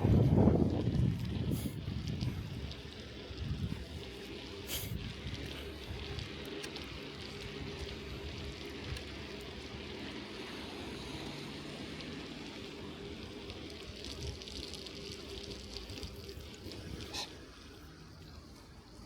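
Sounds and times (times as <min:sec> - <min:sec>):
bicycle tyres hissing on wet snow: 0:00.0 - 0:19.0.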